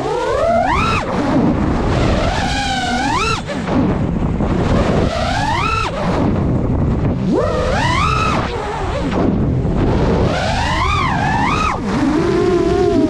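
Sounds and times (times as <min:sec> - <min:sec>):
quadcopter motors whining: 0:00.0 - 0:06.4, 0:07.1 - 0:13.0
wind rush on microphone: 0:00.0 - 0:13.0.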